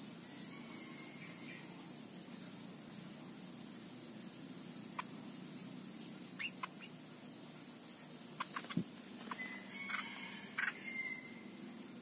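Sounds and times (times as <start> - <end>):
background hum: 0.0 - 12.0
birds chirping: 0.0 - 12.0.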